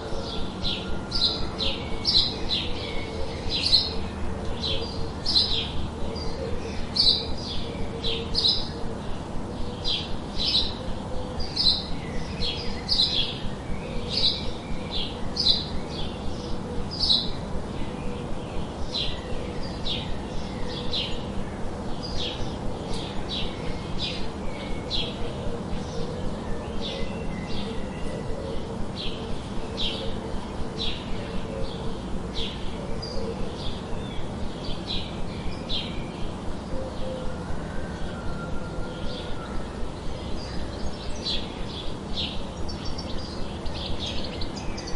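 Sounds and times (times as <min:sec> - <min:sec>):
small birds chirping: 0:00.0 - 0:37.4, 0:39.0 - 0:44.9
steady background hiss: 0:00.0 - 0:44.9.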